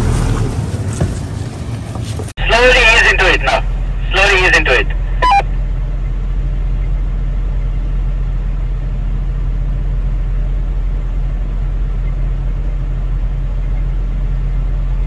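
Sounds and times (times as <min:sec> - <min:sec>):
car engine idling: 0:00.8 - 0:15.0.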